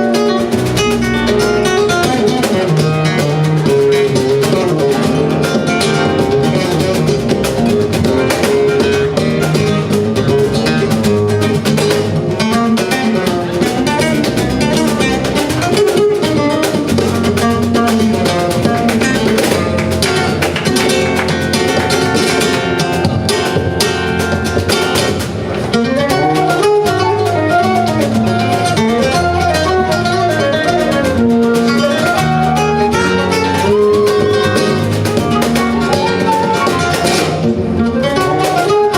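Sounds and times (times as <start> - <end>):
flamenco guitar playing: 0.0 - 38.9.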